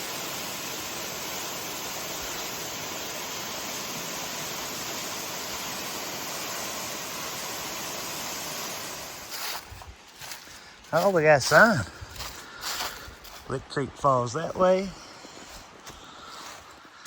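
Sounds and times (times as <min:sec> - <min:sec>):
waterfall pouring and splashing: 0:00.0 - 0:17.0.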